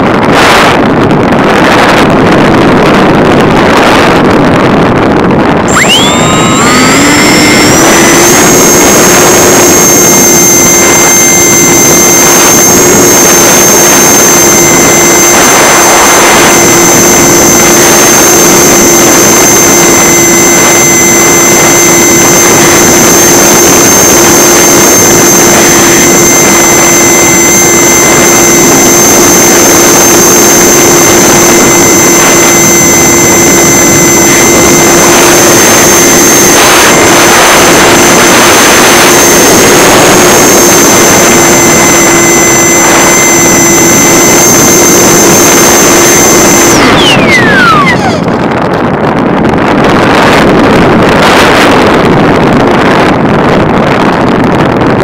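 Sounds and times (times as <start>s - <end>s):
electric propeller motor whine: 0.0s - 55.0s.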